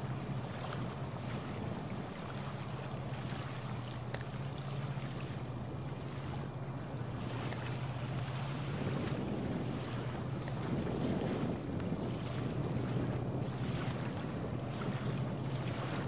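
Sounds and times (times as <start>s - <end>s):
wind noise on microphone: 0.0s - 3.3s, 6.2s - 16.0s
ship engine low drone: 0.0s - 16.0s.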